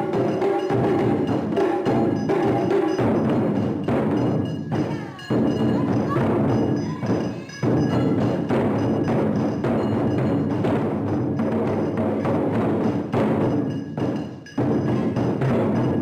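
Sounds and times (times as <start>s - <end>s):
taiko drums ensemble: 0.0s - 16.0s.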